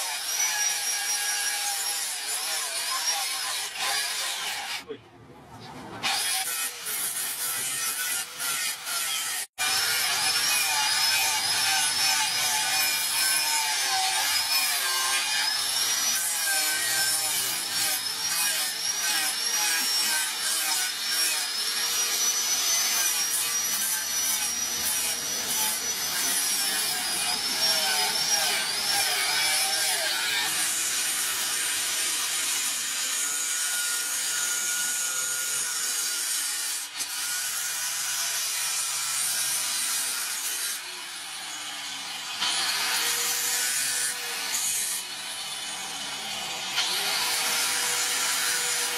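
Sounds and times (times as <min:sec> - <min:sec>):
angle grinder grinding metal: 0:00.0 - 0:04.8, 0:06.0 - 0:48.9.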